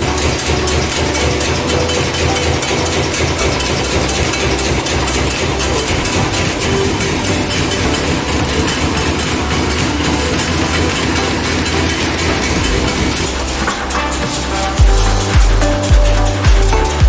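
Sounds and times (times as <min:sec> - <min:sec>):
machine clattering: 0:00.0 - 0:15.9.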